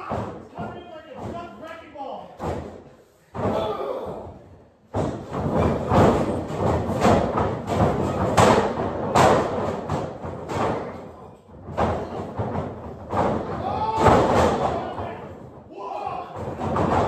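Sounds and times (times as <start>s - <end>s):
wrestlers slamming onto ring: 2.4s - 17.0s.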